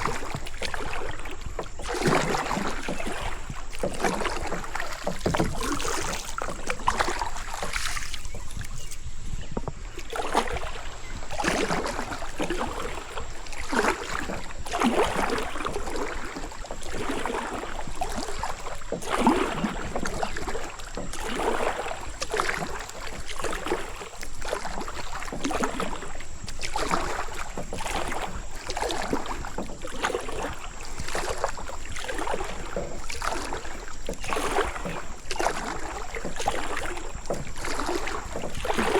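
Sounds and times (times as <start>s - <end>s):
kayak paddle splashing: 0.0s - 38.9s.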